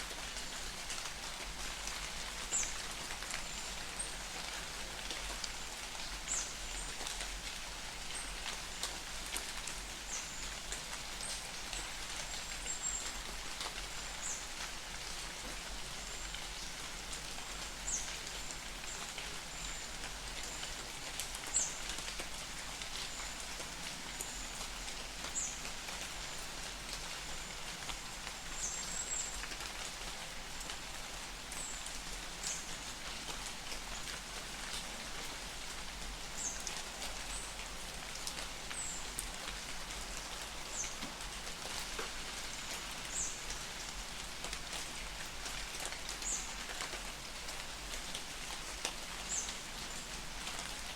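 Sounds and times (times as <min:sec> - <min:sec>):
light rain patter: 0:00.0 - 0:50.9.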